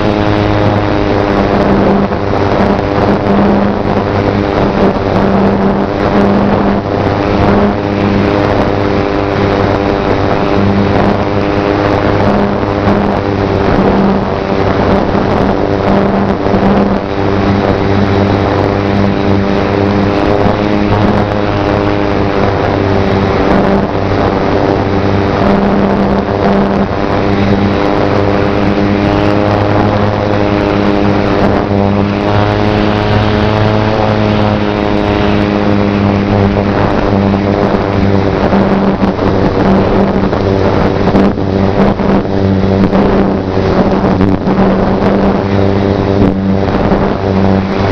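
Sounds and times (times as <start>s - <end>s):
model plane motor droning: 0.0s - 47.9s
wind noise: 0.0s - 47.9s.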